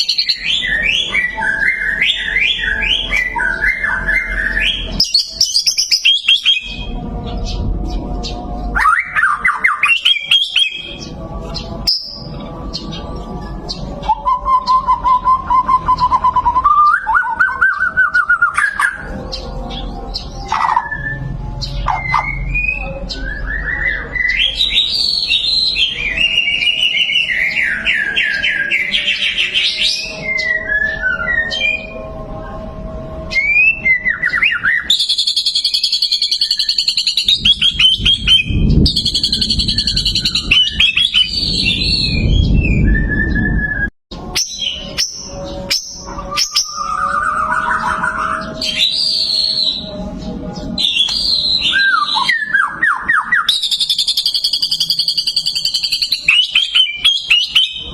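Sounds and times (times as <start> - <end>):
songbird singing: 0.0 - 32.6, 33.2 - 57.9.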